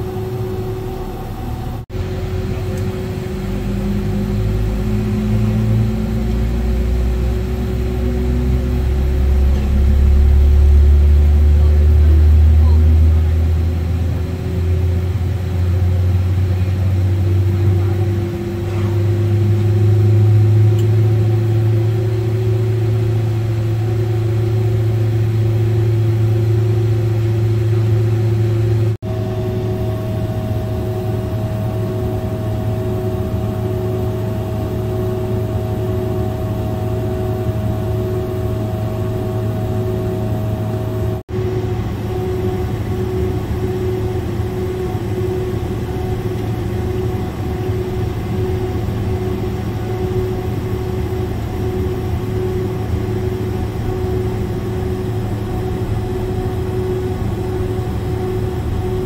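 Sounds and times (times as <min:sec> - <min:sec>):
aircraft cabin drone: 0:00.0 - 0:59.0
higher steady tone: 0:00.0 - 0:59.0
steady hum tone: 0:00.0 - 0:59.0.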